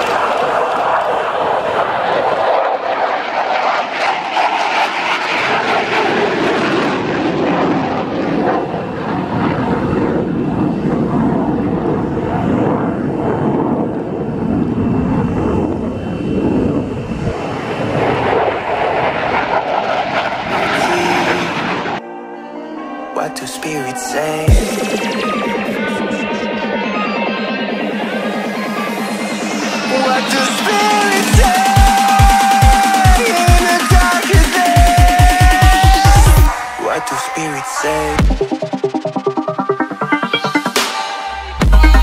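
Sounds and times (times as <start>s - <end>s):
aircraft engine roar: 0.0s - 42.0s.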